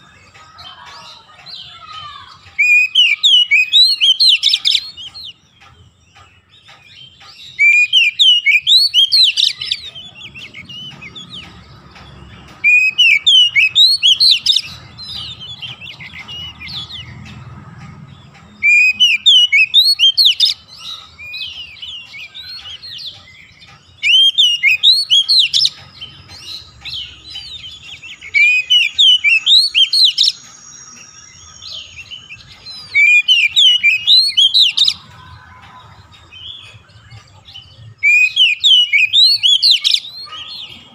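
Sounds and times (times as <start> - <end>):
bird chirps: 0.0 - 40.9.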